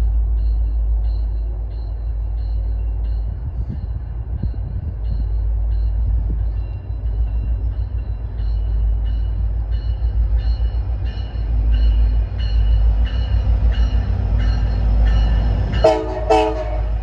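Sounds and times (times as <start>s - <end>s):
diesel locomotive rumble: 0.0s - 17.0s
train bell ringing: 0.0s - 17.0s.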